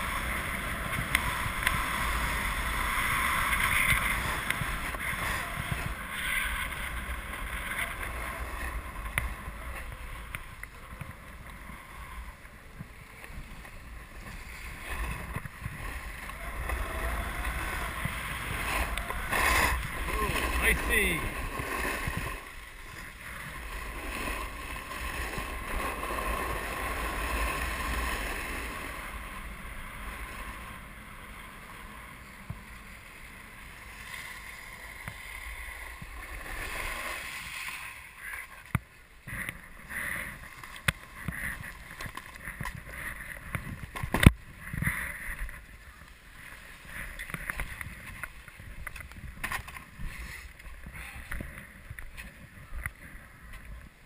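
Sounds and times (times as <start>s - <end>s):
skis scraping over snow: 0.0s - 54.0s.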